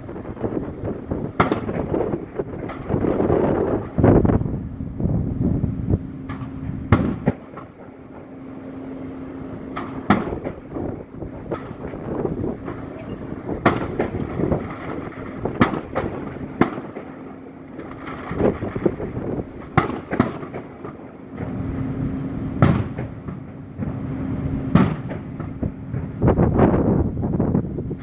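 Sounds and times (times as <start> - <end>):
firework shells booming: 0.0 - 4.4, 6.2 - 8.3, 9.6 - 21.6, 22.6 - 24.0, 24.6 - 28.0.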